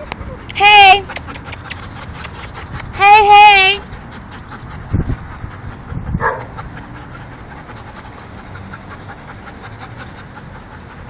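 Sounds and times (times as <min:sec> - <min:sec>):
dog panting: 0:00.4 - 0:11.0.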